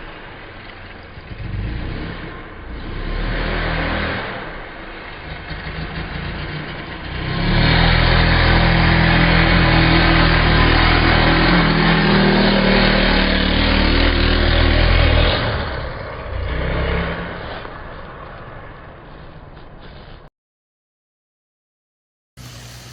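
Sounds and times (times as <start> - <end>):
dirt bike engine: 0.0 - 20.3.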